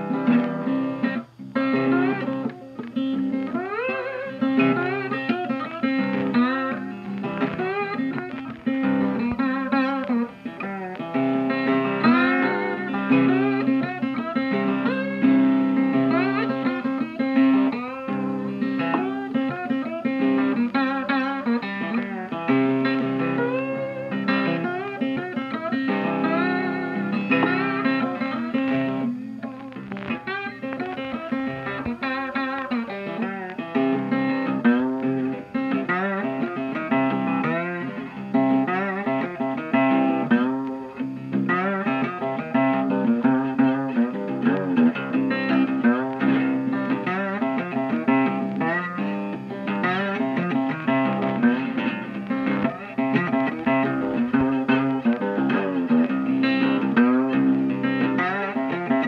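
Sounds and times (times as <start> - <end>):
instrumental guitar music: 0.0 - 59.0.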